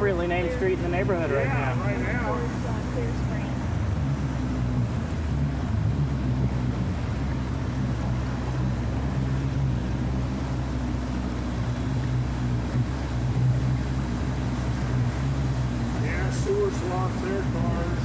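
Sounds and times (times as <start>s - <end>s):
small boat motor running: 0.0s - 18.0s.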